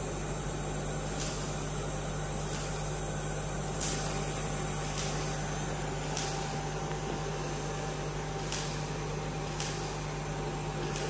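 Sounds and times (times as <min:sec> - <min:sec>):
welding machine hiss and hum: 0:00.0 - 0:11.0.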